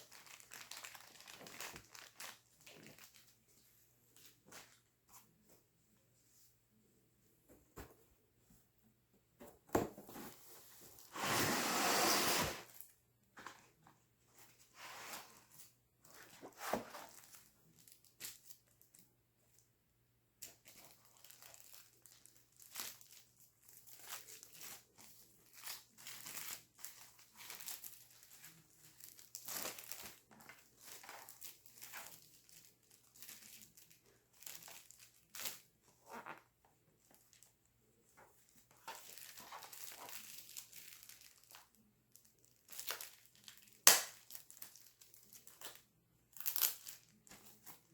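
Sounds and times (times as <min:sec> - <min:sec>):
wrapping crinkling and rustling: 0:00.0 - 0:05.5, 0:10.1 - 0:19.7, 0:20.4 - 0:47.9.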